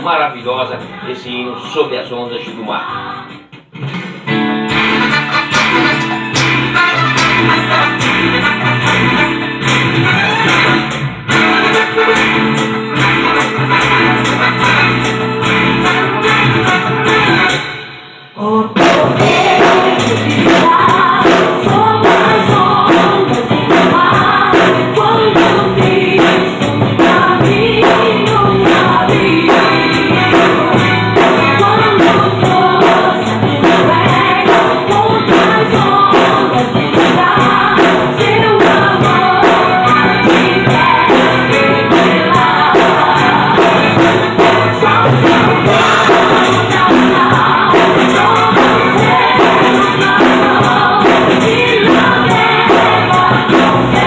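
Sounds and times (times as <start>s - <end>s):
gospel hymn with choir singing: 2.3s - 3.5s, 4.8s - 10.8s, 11.4s - 54.0s
drum kit beat: 3.6s - 18.0s, 18.6s - 54.0s.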